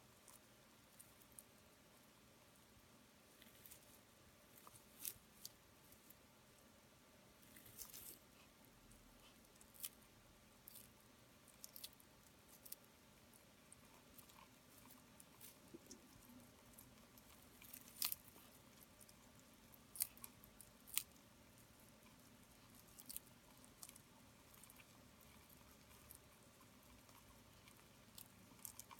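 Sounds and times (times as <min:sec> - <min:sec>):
lizard chewing crunchy insect: 0:00.0 - 0:06.2, 0:07.4 - 0:28.9.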